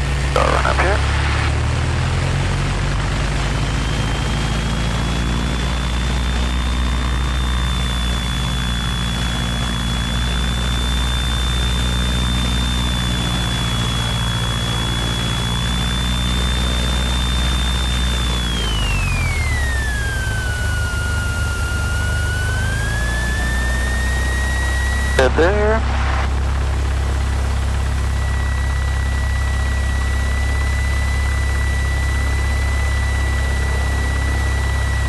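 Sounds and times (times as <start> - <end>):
light aircraft engine droning: 0.0 - 35.0
propeller whine: 0.0 - 35.0.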